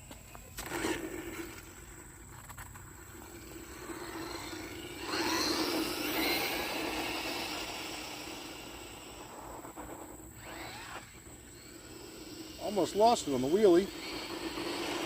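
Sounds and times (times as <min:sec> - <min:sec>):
rc car electric motor whining: 0:00.6 - 0:15.0.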